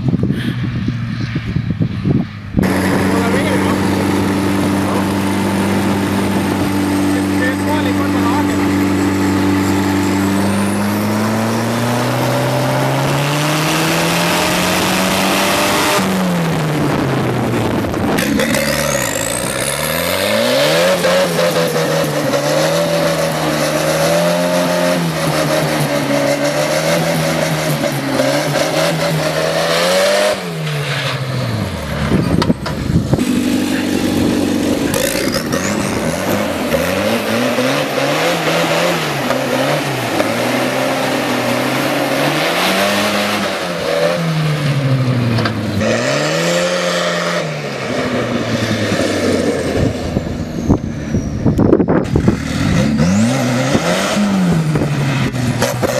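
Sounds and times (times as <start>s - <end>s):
tractor engine revving: 0.0s - 55.9s.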